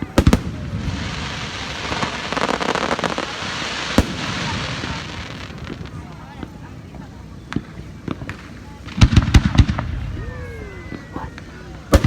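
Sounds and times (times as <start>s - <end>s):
firework bangs: 0.0s - 6.6s, 7.4s - 12.0s
firework crackling: 0.0s - 12.0s.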